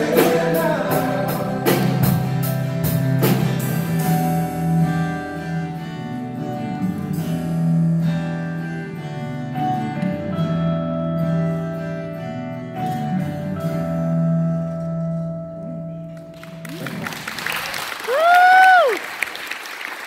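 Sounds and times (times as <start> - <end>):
guitars strumming slow chords: 0.0 - 16.7.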